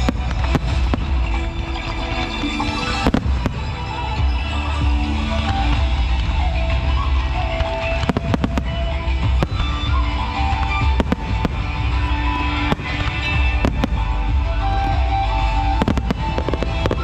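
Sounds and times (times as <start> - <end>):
fireworks bangs: 0.0 - 17.0
loud guitar music: 0.0 - 17.0.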